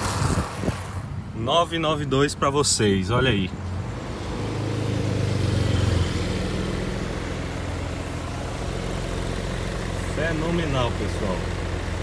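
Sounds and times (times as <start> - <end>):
car engines in slow traffic: 0.0 - 12.0.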